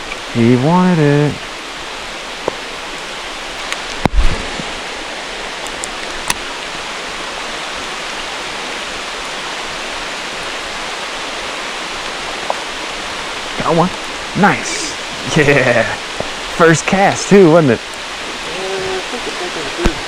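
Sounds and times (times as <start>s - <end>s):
flowing creek water: 0.0s - 20.0s
rain: 0.0s - 20.0s.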